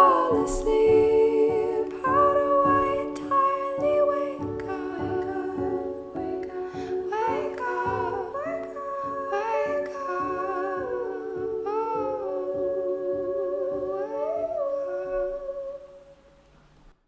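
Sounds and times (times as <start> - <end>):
woman humming in harmony: 0.0 - 16.3.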